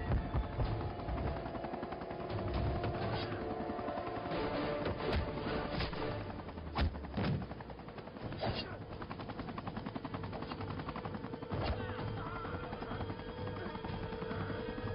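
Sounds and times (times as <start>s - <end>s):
helicopter rotor chop: 0.0s - 14.9s.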